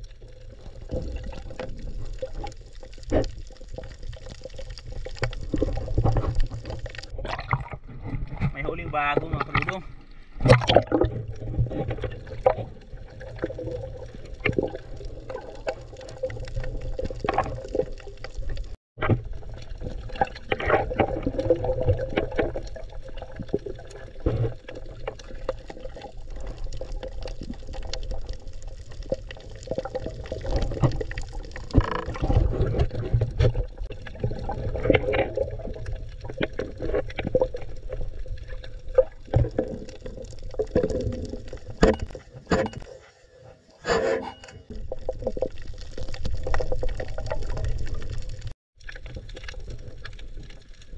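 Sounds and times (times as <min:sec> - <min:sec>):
water rushing and gurgling underwater: 0:00.0 - 0:50.9.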